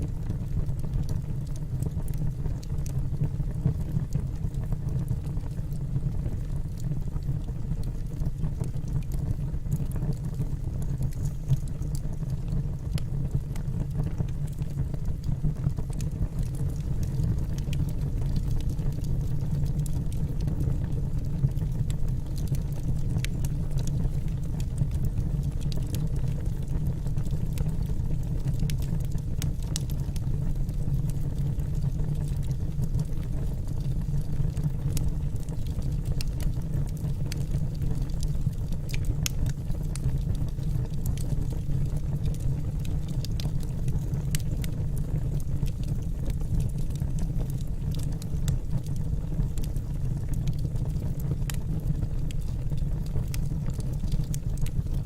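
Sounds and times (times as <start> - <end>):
burning logs crackling and popping: 0.0 - 55.0
low rumble of flames: 0.0 - 55.0.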